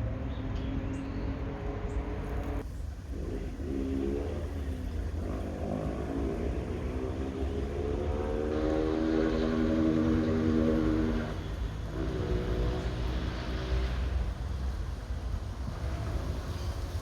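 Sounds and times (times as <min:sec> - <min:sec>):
vehicle engine speeding up: 0:00.0 - 0:17.0.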